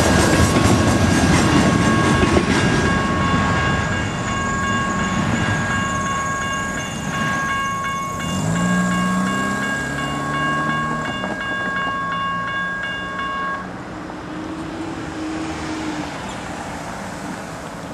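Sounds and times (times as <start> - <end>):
railroad crossing bell dinging: 0.0 - 15.3
low rumble of passing train: 0.0 - 17.9.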